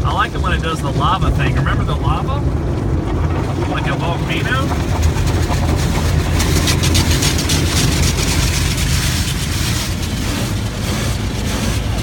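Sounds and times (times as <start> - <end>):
steady low rumble: 0.0 - 12.0
water spraying against car body: 0.0 - 12.0.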